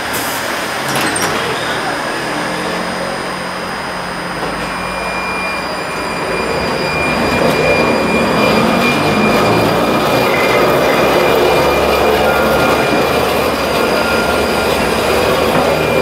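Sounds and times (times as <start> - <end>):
high whine from tram wheels: 0.0 - 16.0
tram rumbling and rattling: 0.0 - 16.0.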